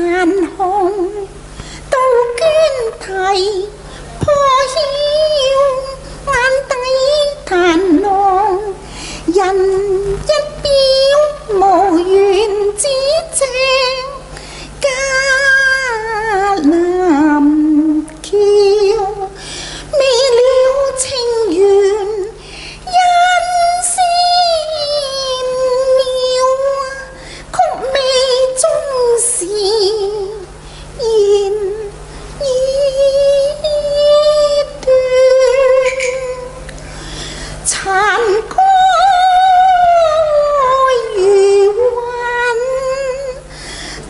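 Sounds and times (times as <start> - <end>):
woman singing opera: 0.0 - 36.8, 37.6 - 43.5.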